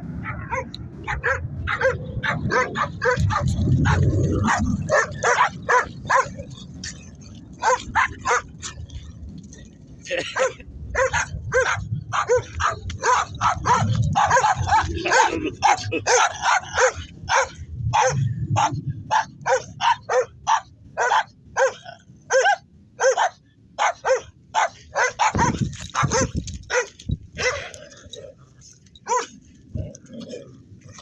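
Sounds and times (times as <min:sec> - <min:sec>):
dogs barking: 0:00.2 - 0:09.1, 0:10.1 - 0:28.0, 0:29.0 - 0:29.4.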